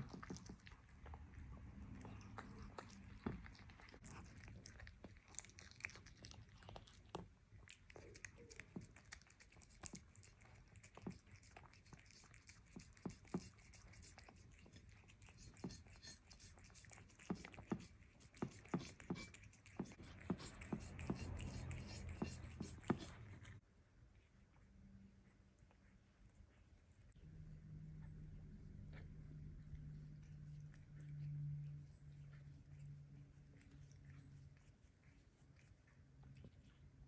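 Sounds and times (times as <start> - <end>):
cat tongue lapping: 0.0 - 23.6, 29.6 - 37.0
cat chewing: 0.0 - 27.2, 28.6 - 37.0.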